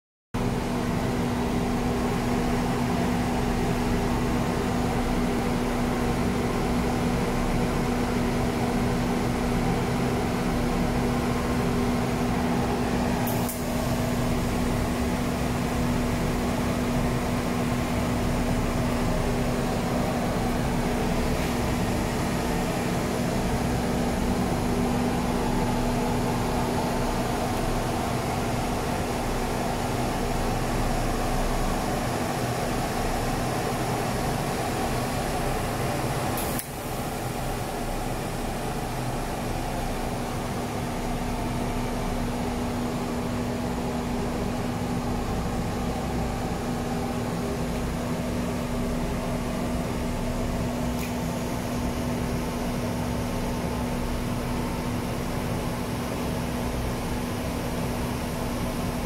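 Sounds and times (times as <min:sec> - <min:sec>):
welding machine hum and hiss: 0:00.4 - 0:59.0.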